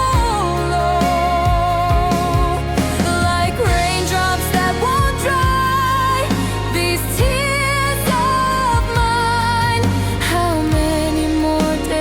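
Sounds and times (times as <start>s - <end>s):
low bass notes: 0.0s - 12.0s.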